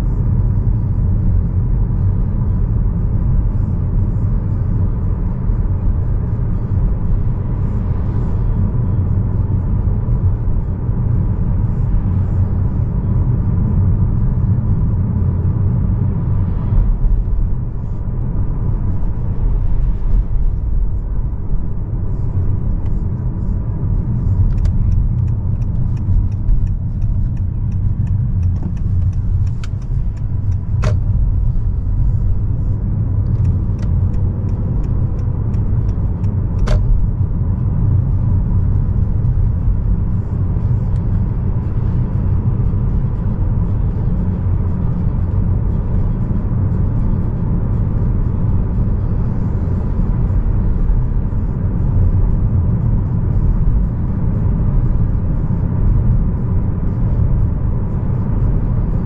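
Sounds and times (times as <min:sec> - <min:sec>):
road and tyre rumble: 0:00.0 - 0:59.0.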